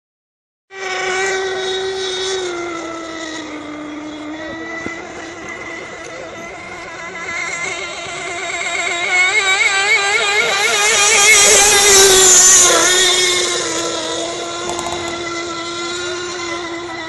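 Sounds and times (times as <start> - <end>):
model boat engine whining: 0.7 - 17.0.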